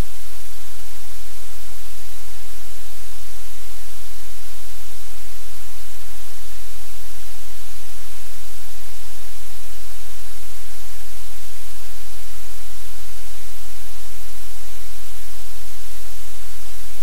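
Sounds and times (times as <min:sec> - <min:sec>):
static-like hiss: 0:00.0 - 0:17.0.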